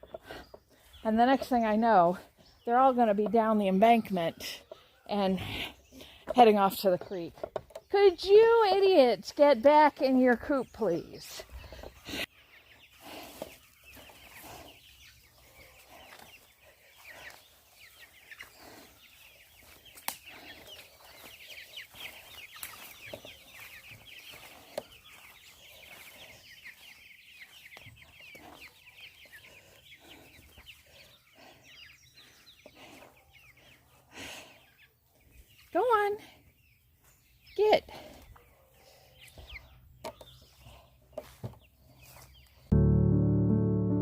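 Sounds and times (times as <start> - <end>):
chickens clucking: 0.0 - 42.7.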